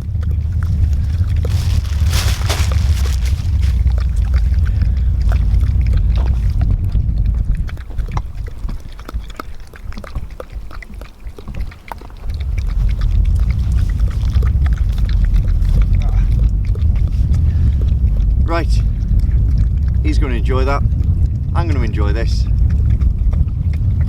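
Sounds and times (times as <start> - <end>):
dog eating wet food: 0.0 - 24.0
wind rumble on microphone: 0.0 - 24.0.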